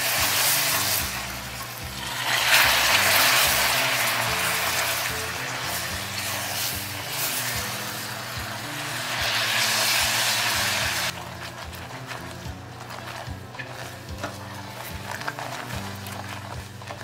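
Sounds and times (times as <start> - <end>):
caramel bubbling and hissing: 0.0 - 17.0
soft background music: 0.0 - 17.0.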